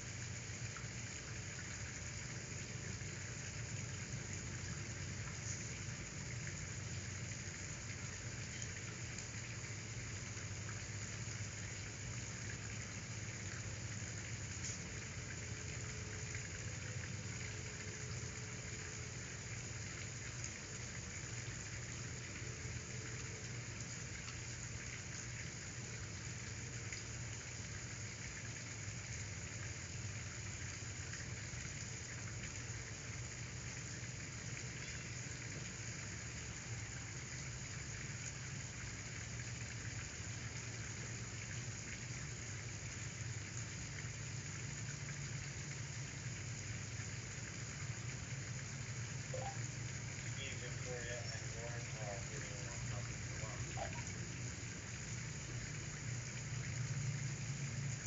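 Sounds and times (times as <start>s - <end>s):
constant low hum: 0.0s - 58.0s
steady background hiss: 0.0s - 58.0s.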